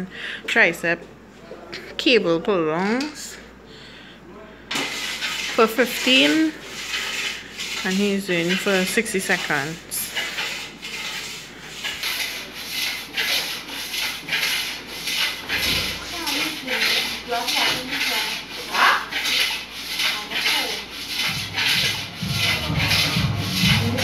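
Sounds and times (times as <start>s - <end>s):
weight plates scraping on steel post: 4.7s - 24.0s.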